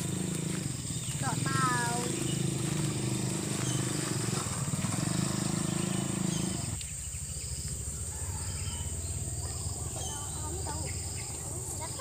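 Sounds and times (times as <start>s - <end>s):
birds chirping: 0.0s - 12.0s
insects droning: 0.0s - 12.0s
small engine running: 0.0s - 12.0s.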